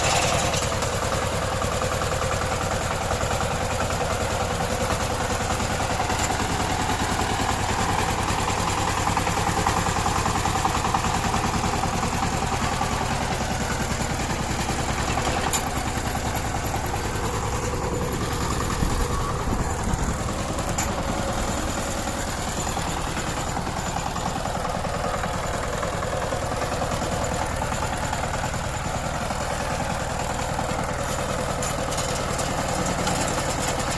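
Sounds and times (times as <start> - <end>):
diesel engine chugging at idle: 0.0 - 33.9.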